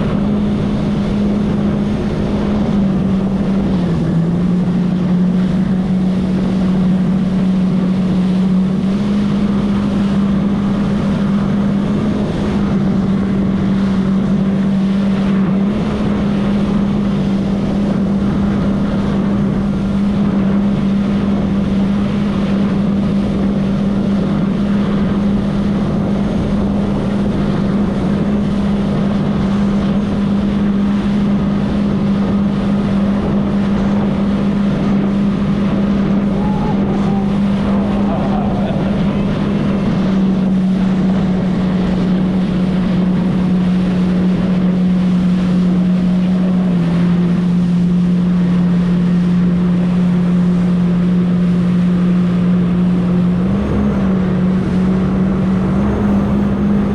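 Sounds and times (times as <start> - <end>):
jet ski engine: 0.0 - 56.9
rushing water: 0.0 - 56.9
wind on microphone: 0.0 - 56.9.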